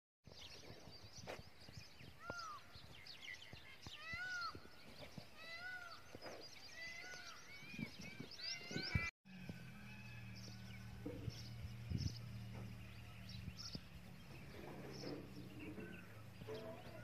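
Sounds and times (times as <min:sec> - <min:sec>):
birds chattering chirps: 0:00.3 - 0:09.1, 0:10.4 - 0:17.0
bird call rising and falling: 0:02.1 - 0:17.0.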